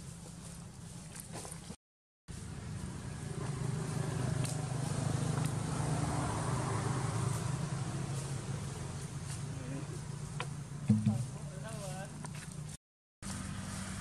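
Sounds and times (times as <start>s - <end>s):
vehicle engine humming: 2.3s - 14.0s.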